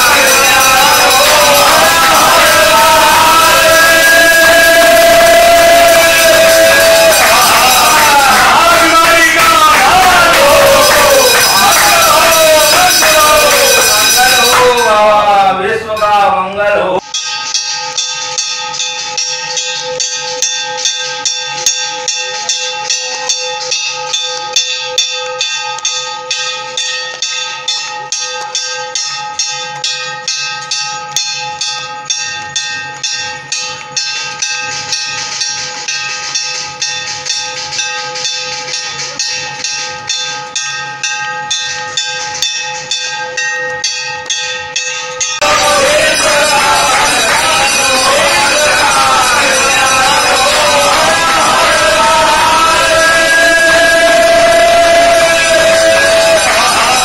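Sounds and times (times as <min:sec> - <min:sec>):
large temple bell ringing: 0:00.0 - 0:57.0.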